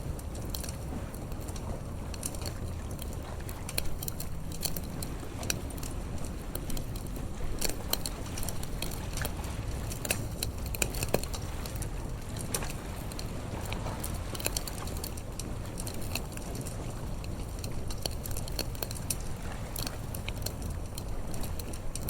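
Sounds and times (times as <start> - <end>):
steady low rumble: 0.0 - 22.0
wood fire crackling and popping: 0.0 - 22.0.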